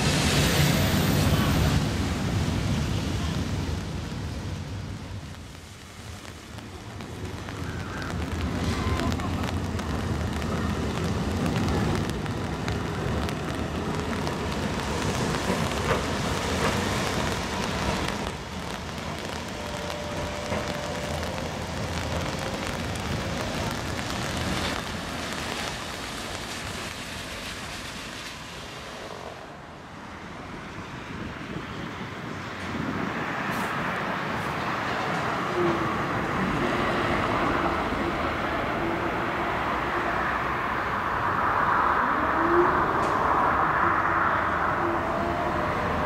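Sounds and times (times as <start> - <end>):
tram rumbling past: 0.0 - 46.0.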